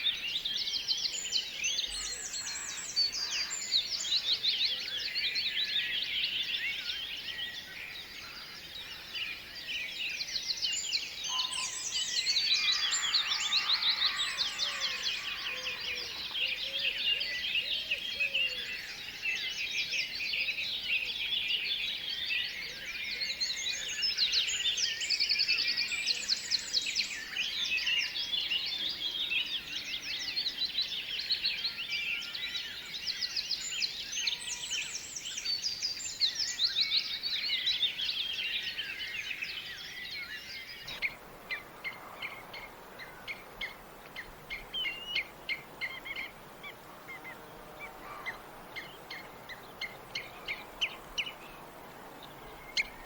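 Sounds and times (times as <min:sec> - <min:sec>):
tropical birds chirping: 0:00.0 - 0:53.0.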